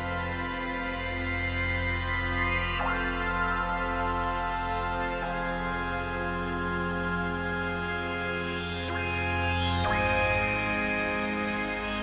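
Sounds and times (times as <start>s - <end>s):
ambient synth pad music: 0.0s - 12.0s.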